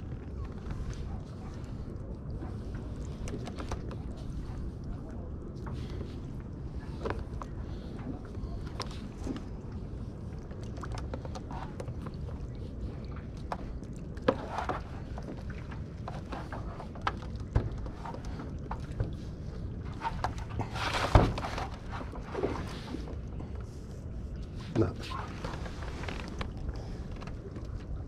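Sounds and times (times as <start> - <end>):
low water rumble: 0.0 - 28.0.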